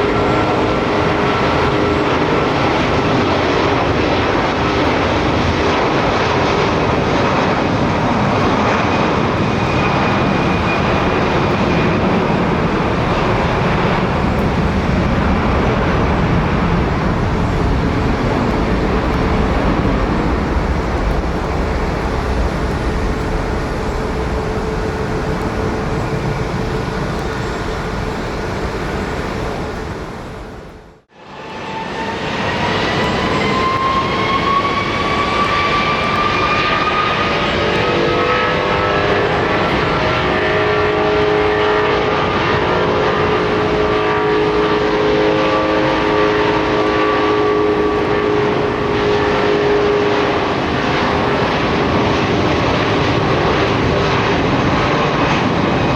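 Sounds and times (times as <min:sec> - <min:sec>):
broad engine roar: 0:00.0 - 0:55.9
jet engine rumbling rush: 0:00.0 - 0:55.9
jet engine whine: 0:00.0 - 0:55.9.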